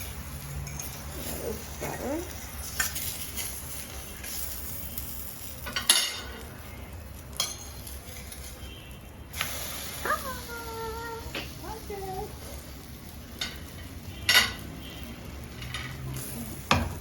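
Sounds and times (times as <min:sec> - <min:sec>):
batter sizzling: 0:00.0 - 0:17.0.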